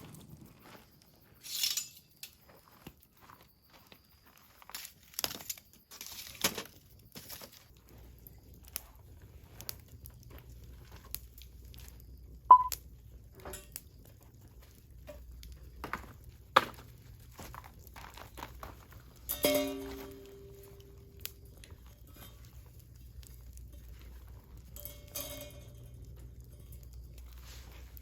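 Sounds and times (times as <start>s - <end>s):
fire materials rustling and crinkling: 0.0s - 28.0s.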